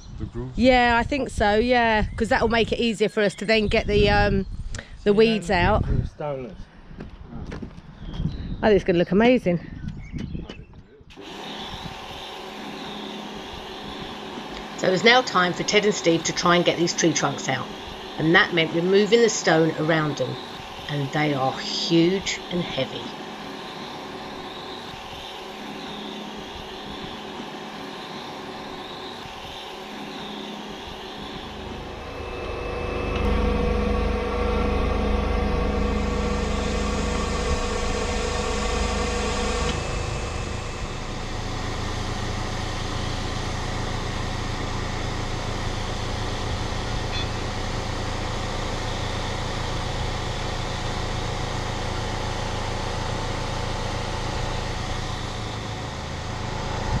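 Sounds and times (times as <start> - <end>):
engine whine under load: 0.0 - 57.0
excavator diesel engine running: 0.6 - 4.4, 11.1 - 57.0.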